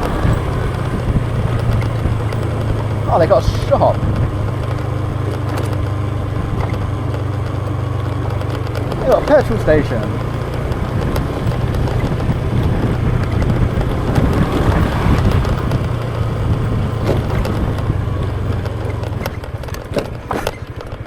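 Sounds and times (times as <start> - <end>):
motorbike engine running: 0.0 - 21.0
wind and road noise: 0.0 - 21.0.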